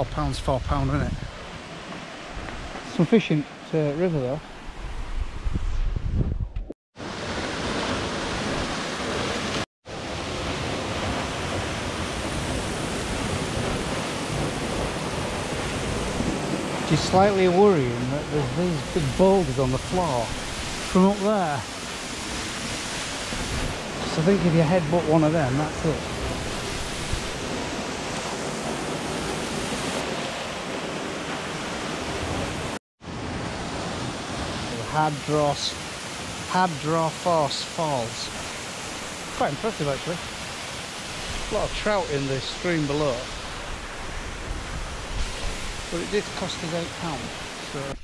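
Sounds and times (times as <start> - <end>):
waterfall rushing: 7.0 - 32.8, 33.5 - 48.0.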